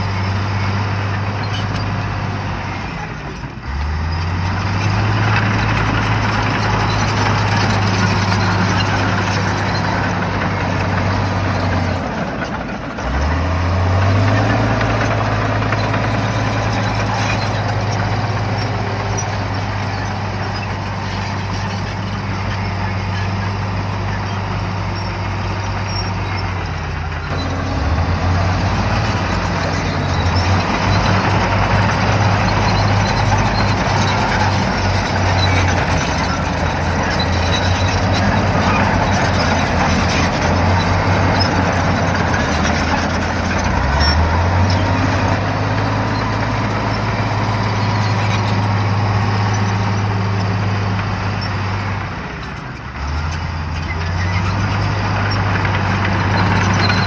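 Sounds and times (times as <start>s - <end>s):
bulldozer diesel engine under load: 0.0s - 57.0s
clatter and scraping: 3.2s - 57.0s.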